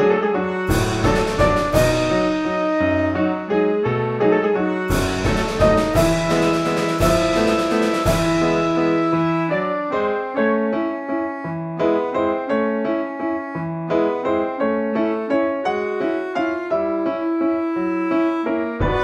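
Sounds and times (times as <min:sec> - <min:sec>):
piano-like keyboard melody: 0:00.0 - 0:19.0.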